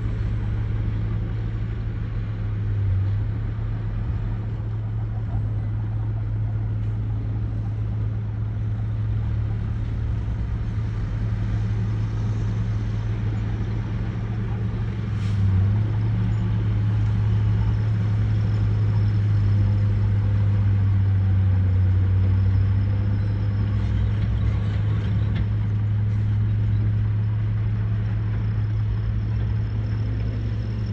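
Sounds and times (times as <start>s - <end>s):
diesel truck engine running: 0.0s - 30.9s.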